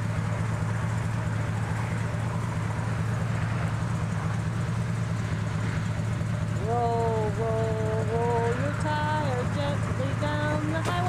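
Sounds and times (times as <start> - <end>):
road noise: 0.0 - 11.0
vehicle engine idling: 0.0 - 11.0.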